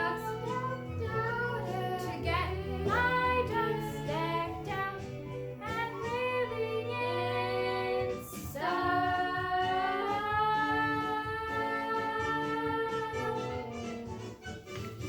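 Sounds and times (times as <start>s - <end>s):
group singing: 0.0s - 13.8s
instrumental accompaniment: 0.0s - 15.0s.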